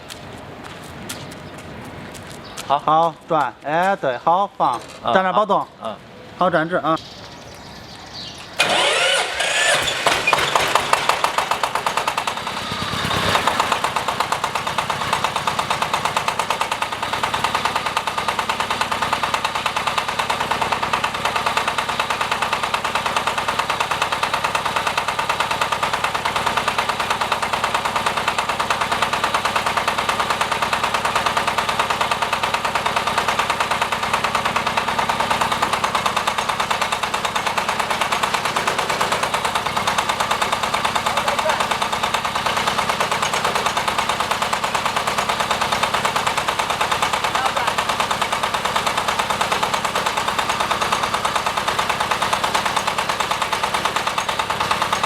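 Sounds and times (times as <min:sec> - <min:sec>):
diesel engine of drilling rig running: 0:07.0 - 0:55.0.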